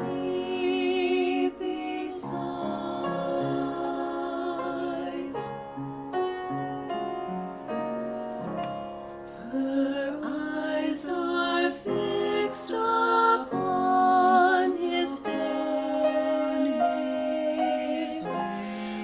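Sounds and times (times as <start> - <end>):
voices singing slow christmas song: 0.0 - 5.9, 9.3 - 19.0
piano accompaniment: 0.0 - 19.0.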